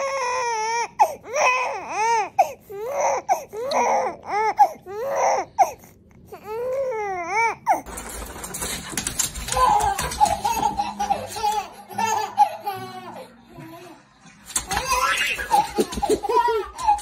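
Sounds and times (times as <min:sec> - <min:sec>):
infant crying: 0:00.0 - 0:07.9, 0:09.4 - 0:14.0, 0:14.7 - 0:17.0.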